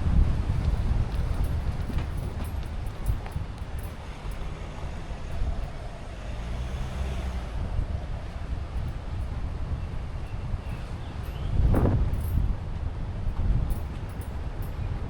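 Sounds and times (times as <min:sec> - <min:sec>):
car engine rumble: 0:00.0 - 0:15.0
tyre noise: 0:00.0 - 0:15.0.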